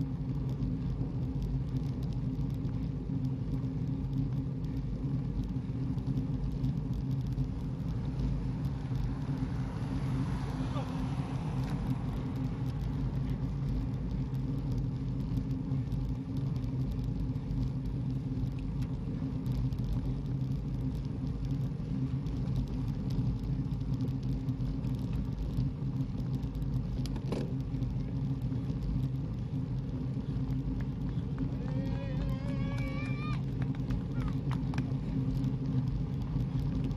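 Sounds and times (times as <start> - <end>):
car driving rumble: 0.0 - 36.9.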